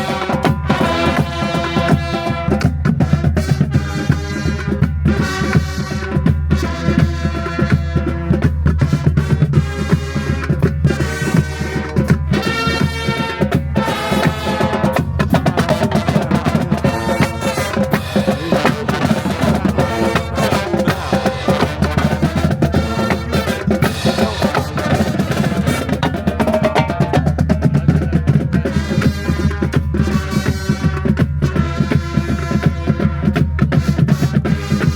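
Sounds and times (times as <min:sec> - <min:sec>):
loud music with drums: 0:00.0 - 0:34.9.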